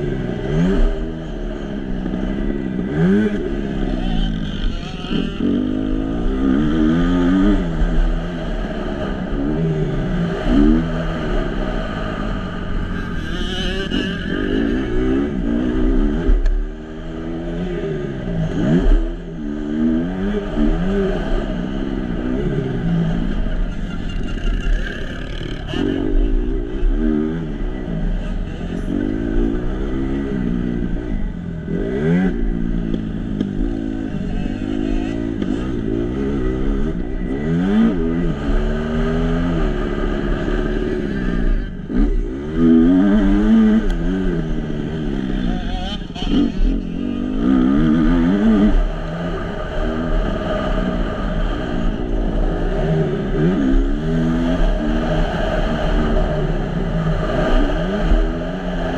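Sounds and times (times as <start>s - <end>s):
motocross engine revving: 0.0s - 58.9s.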